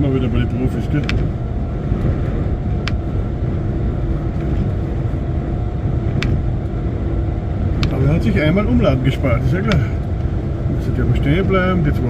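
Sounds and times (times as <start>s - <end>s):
lorry engine and tyres rumbling: 0.0s - 12.0s.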